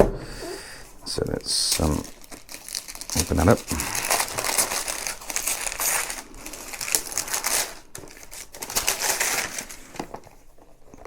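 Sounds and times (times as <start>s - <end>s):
packaging crinkling and tearing: 1.1s - 11.0s.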